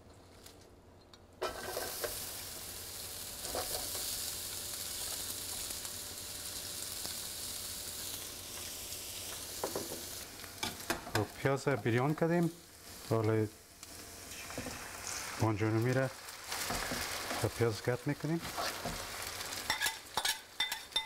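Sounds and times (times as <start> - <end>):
onions sizzling in hot oil: 1.4 - 21.0.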